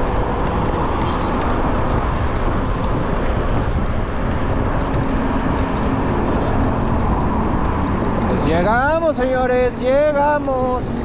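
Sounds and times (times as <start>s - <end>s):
city traffic: 0.0s - 11.0s
road noise: 0.0s - 11.0s
wind noise: 0.0s - 11.0s.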